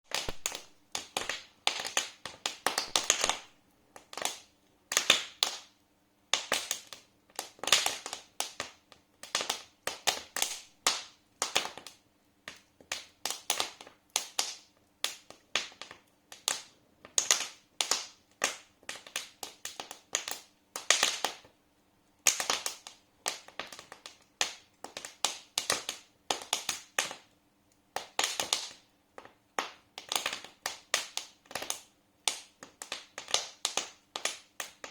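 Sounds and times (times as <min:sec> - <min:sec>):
wood fire crackling: 0:00.1 - 0:05.7, 0:06.3 - 0:21.6, 0:22.2 - 0:34.9.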